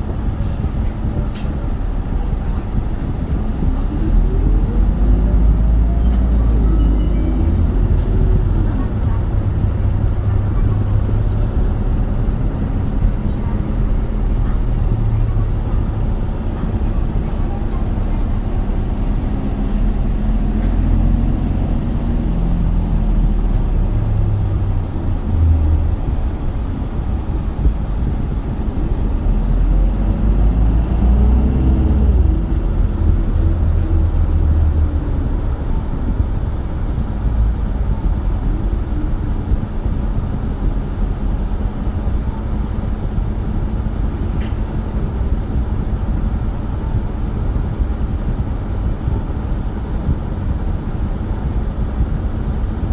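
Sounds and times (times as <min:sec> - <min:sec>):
bus diesel engine rumble: 0:00.0 - 0:52.9.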